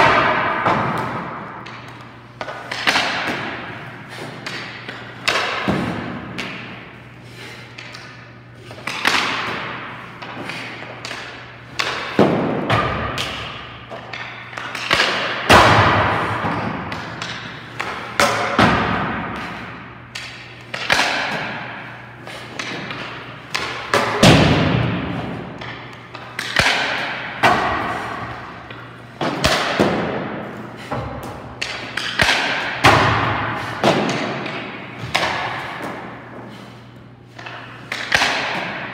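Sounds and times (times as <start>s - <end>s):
hockey pucks cracking and thudding: 0.0s - 7.0s, 7.7s - 36.7s, 37.3s - 38.9s.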